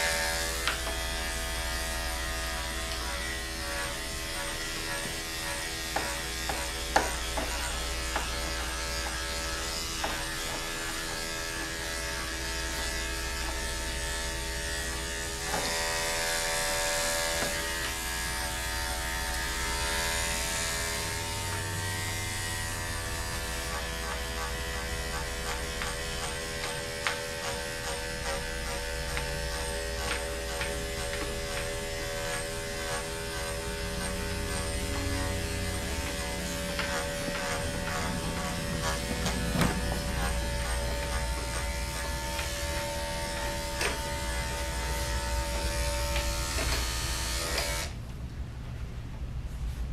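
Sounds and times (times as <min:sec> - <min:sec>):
clipper blade shearing fur: 0:00.0 - 0:48.0
electric clipper humming: 0:00.0 - 0:48.0.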